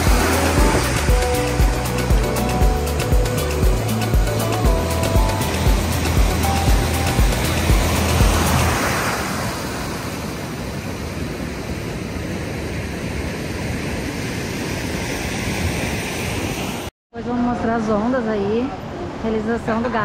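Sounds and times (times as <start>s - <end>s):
waves breaking and washing: 0.0s - 16.9s.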